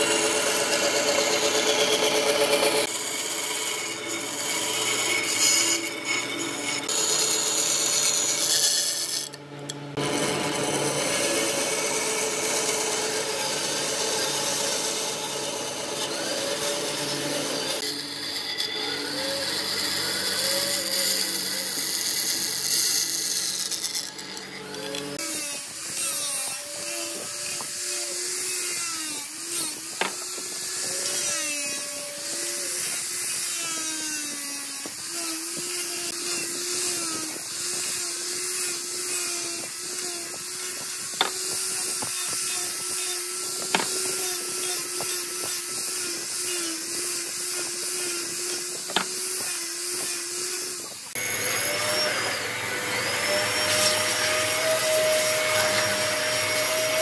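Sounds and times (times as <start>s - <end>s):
angle grinder sanding wood: 0.0s - 57.0s.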